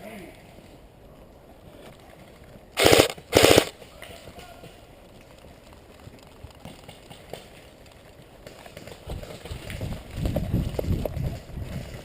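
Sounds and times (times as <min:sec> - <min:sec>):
quiet footsteps: 0:00.3 - 0:12.0
gear clicking and jostling: 0:01.9 - 0:12.0.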